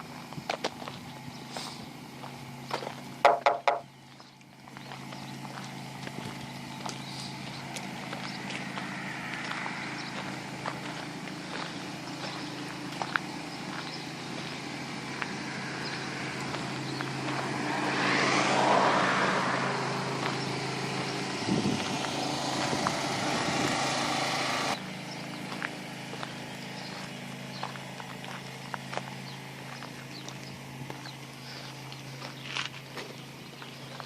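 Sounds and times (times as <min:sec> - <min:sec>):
motor vehicle passing: 0:00.0 - 0:34.0
steady engine hum: 0:00.0 - 0:34.0.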